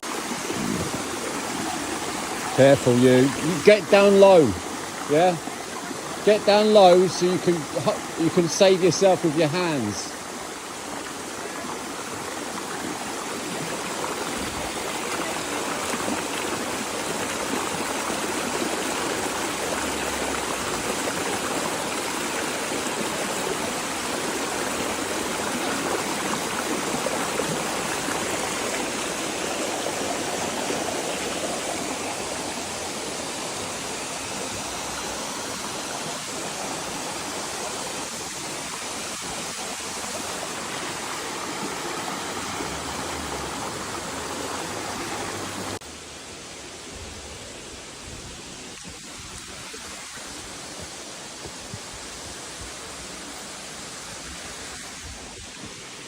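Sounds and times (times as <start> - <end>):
rush of flowing water: 0.0 - 56.0.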